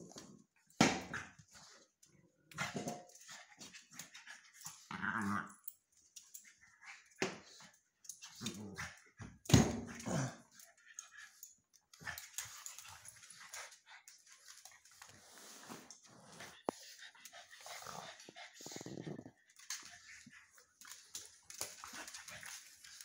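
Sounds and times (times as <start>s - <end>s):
dogs vocalising while play-fighting: 2.6s - 9.2s, 9.8s - 23.0s.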